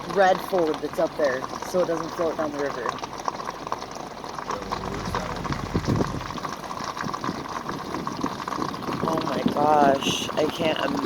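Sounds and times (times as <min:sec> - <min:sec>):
floodwater rushing and churning: 0:00.0 - 0:11.0
water splashing crackles: 0:00.0 - 0:11.0.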